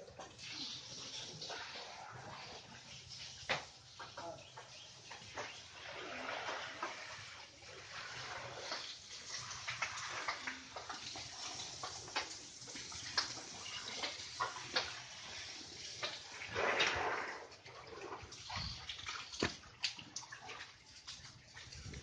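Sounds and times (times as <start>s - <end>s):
hose water splashing on concrete: 0.0s - 22.0s.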